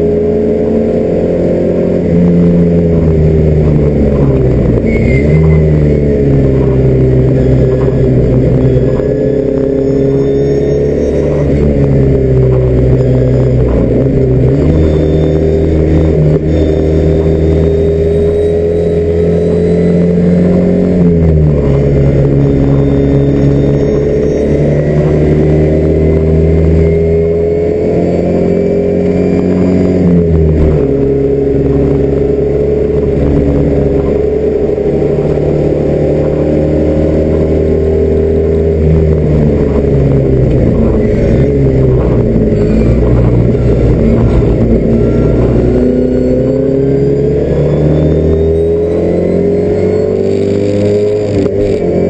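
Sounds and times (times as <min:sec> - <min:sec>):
car engine under racing load: 0:00.0 - 0:52.0.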